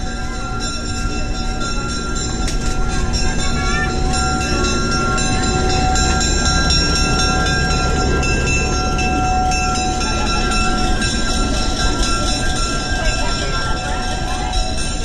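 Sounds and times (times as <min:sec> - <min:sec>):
locomotive engine rumble: 0:00.0 - 0:15.0.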